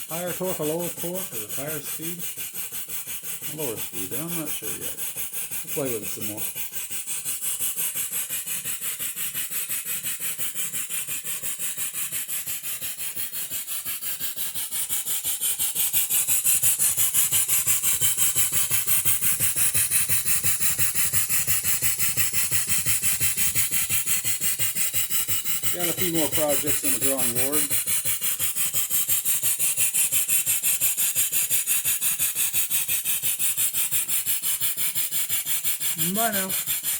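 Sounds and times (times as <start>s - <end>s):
saw blade whirring and rasping: 0.0s - 36.9s
steam engine beats: 0.0s - 36.9s.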